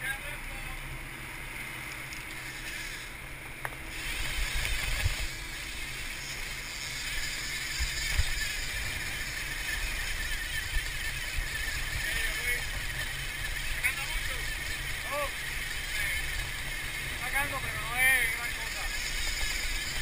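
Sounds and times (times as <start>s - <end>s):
boat diesel engines running: 0.0s - 20.0s
wake churning and hissing: 3.8s - 20.0s
wind buffeting microphone: 4.0s - 20.0s.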